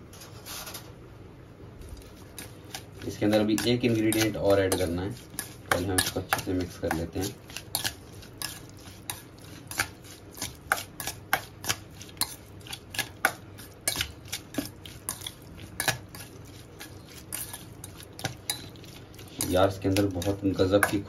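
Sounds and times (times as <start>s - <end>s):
spoon clinking and scraping bowl: 2.0s - 21.0s.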